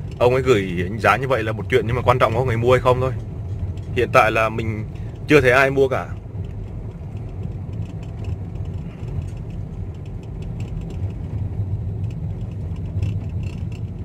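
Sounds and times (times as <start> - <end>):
car engine and tyres rumbling: 0.0 - 14.0
light ticks and rattles: 0.0 - 14.0.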